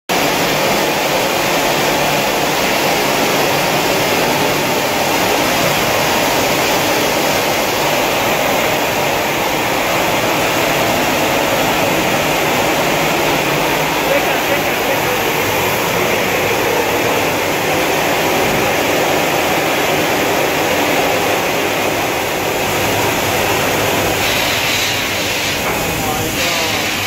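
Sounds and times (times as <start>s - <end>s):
sorting machine rushing noise: 0.1s - 27.0s.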